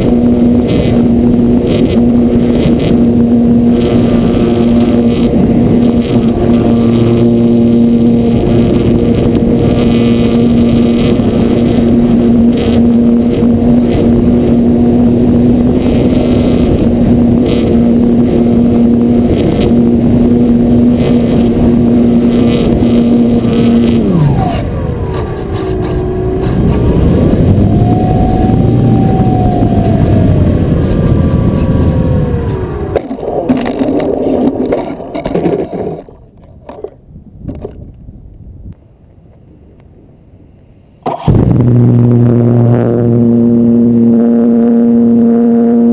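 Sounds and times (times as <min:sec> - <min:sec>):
electric motor whine: 0:00.0 - 0:36.9, 0:41.1 - 0:45.9
wind rush: 0:00.0 - 0:38.8, 0:41.0 - 0:44.8.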